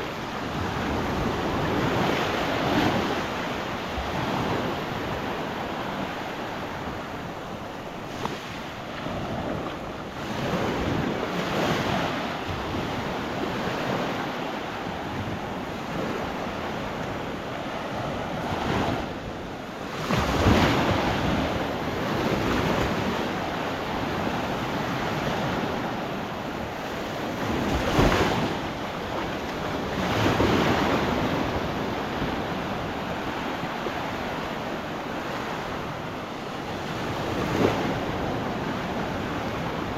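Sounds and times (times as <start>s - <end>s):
surf washing onto sandy beach: 0.0s - 39.9s
wind on microphone: 0.0s - 39.9s.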